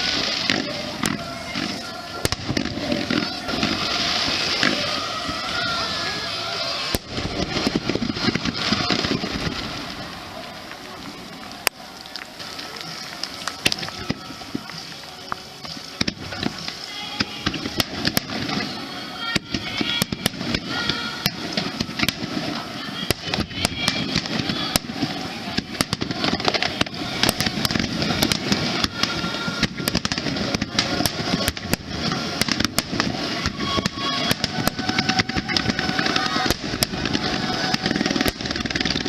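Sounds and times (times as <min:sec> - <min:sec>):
background music: 0:00.0 - 0:39.0
crowd voices: 0:00.0 - 0:39.0
fireworks bursting and crackling: 0:00.0 - 0:39.0.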